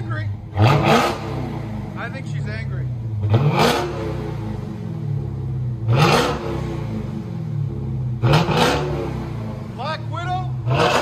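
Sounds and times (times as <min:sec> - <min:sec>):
car engine idling: 0:00.0 - 0:11.0
car engine revving: 0:00.0 - 0:11.0.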